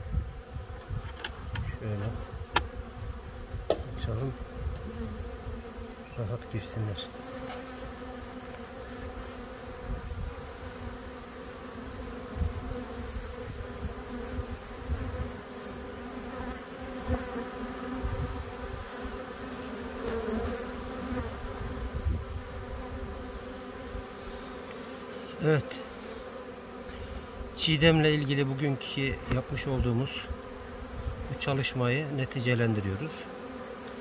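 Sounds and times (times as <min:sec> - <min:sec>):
honeybees buzzing: 0:00.0 - 0:34.0.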